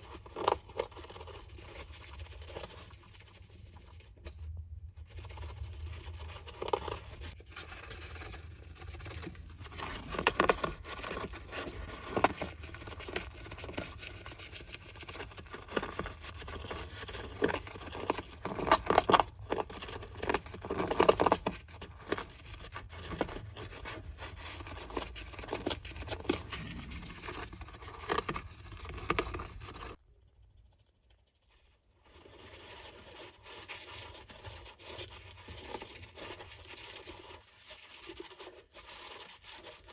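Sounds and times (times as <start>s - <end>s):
hamster digging in sand: 5.0s - 39.9s.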